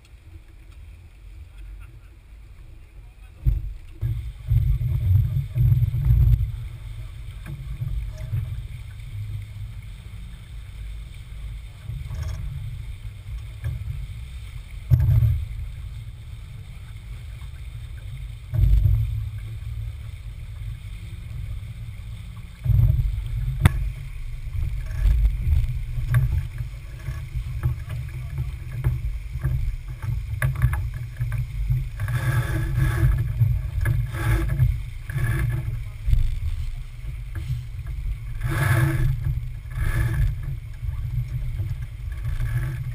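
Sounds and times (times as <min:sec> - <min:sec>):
water rushing along hull: 0:00.0 - 0:42.9
wind rumbling on microphone: 0:00.0 - 0:42.9.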